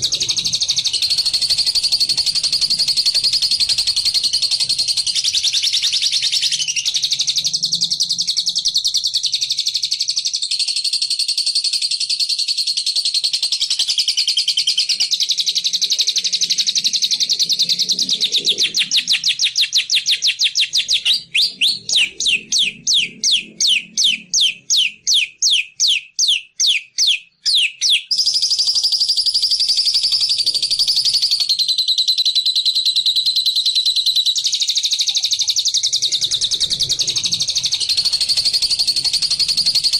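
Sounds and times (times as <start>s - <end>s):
recorded bird chattering trill: 0.0s - 39.9s.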